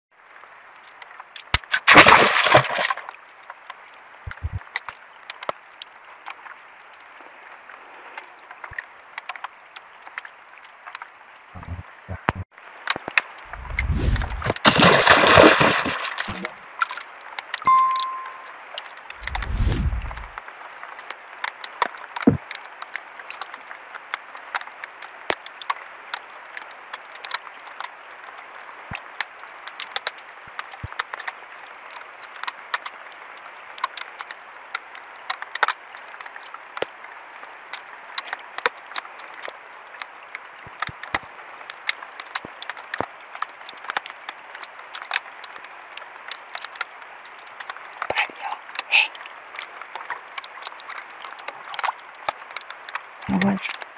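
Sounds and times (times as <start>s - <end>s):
rain falling on water: 0.1s - 53.9s
raindrops ticking close by: 0.2s - 1.8s, 3.0s - 53.9s.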